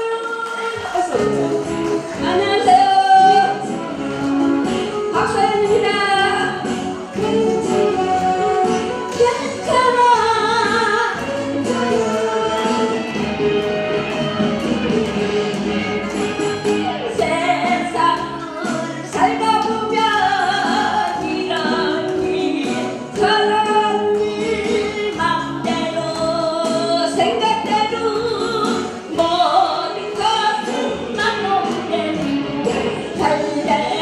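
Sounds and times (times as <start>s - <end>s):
woman singing into microphone: 0.0s - 3.9s, 5.0s - 13.6s, 16.3s - 34.0s
instrumental accompaniment: 0.0s - 34.0s.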